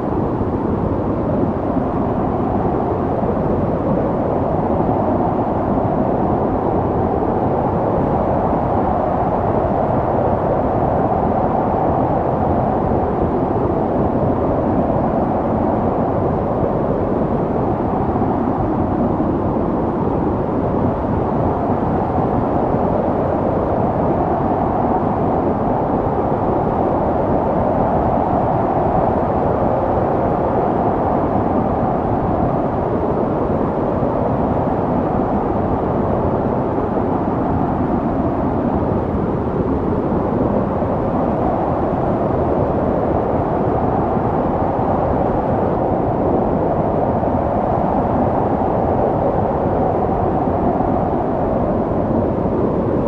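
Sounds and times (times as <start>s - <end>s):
snowstorm wind rushing: 0.0s - 53.0s.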